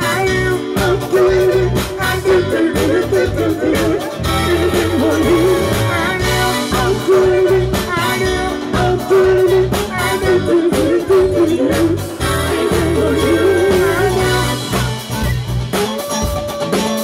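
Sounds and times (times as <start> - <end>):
several people singing: 0.0 - 14.8
drums and bass guitar beat: 0.0 - 17.0
live band playing: 0.0 - 17.0.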